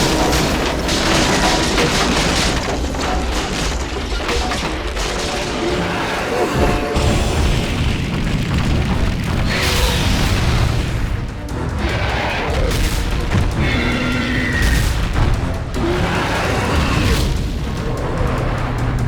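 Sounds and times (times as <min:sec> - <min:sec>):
heavy booming impacts: 0:00.0 - 0:11.9, 0:12.5 - 0:19.0
loud action music: 0:00.0 - 0:19.0.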